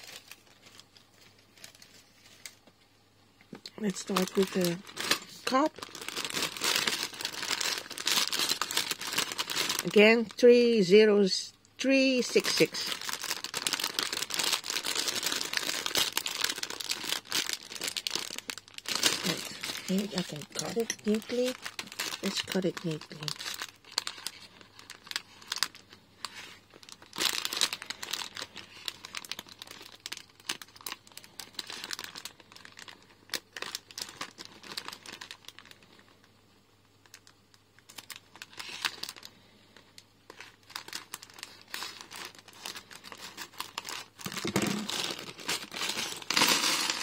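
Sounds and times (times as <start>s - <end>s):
plastic bag crinkling: 0.0s - 2.7s, 3.8s - 11.0s, 11.9s - 36.3s, 37.0s - 47.0s.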